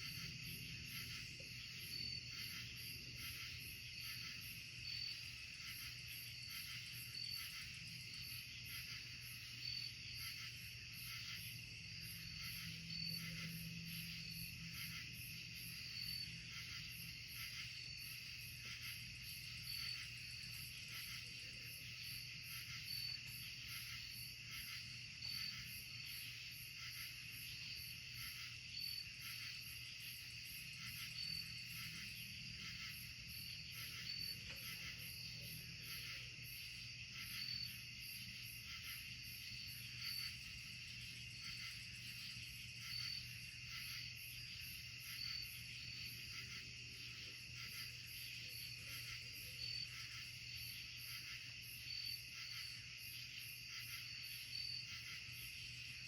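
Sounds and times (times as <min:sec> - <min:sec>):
crickets trilling: 0:00.0 - 0:56.0
insect chirp: 0:00.0 - 0:56.0.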